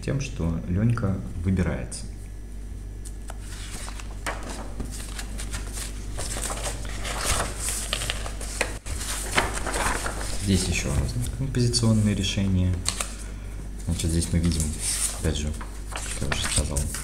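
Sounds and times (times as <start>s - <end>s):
low steady hum: 0.0s - 17.0s
paper rustling: 3.0s - 17.0s.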